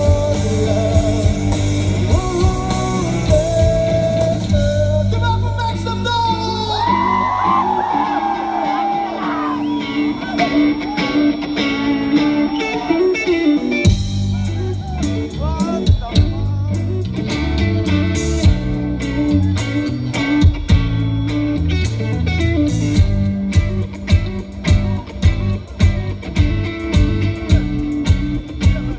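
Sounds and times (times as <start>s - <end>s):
bass and drums: 0.0s - 28.9s
live rock band: 0.0s - 28.9s.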